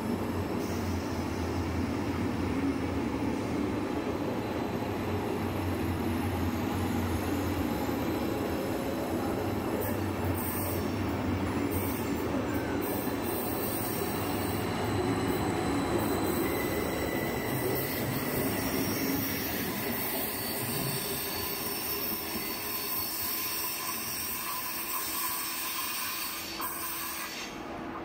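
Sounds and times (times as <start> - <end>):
electric train rumbling past: 0.0 - 28.0.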